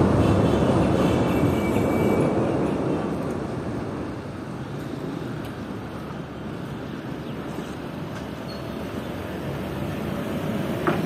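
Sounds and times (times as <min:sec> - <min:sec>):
train rolling across steel bridge: 0:00.0 - 0:11.0.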